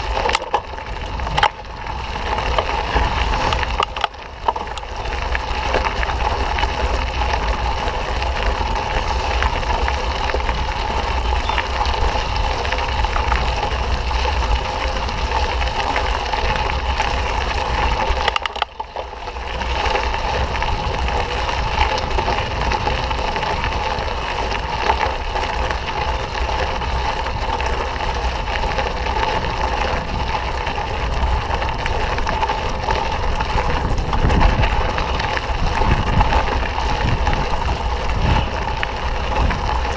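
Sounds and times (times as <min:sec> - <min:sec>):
mountain bike tyre and trail rattle: 0:00.0 - 0:39.9
wind rush on microphone: 0:00.0 - 0:39.9.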